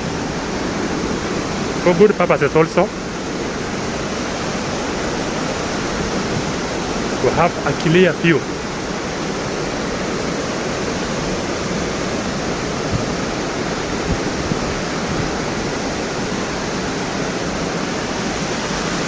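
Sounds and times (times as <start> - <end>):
large waterfall rushing: 0.0 - 19.0.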